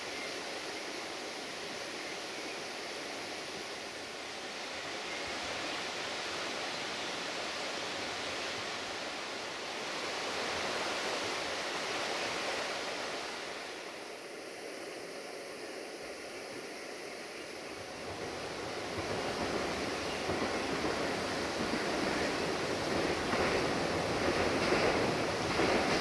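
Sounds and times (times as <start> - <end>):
fast river rushing: 0.0 - 26.0.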